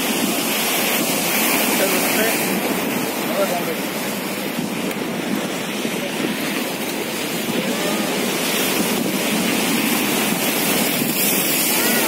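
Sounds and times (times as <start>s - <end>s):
surf breaking on rocks: 0.0s - 12.0s.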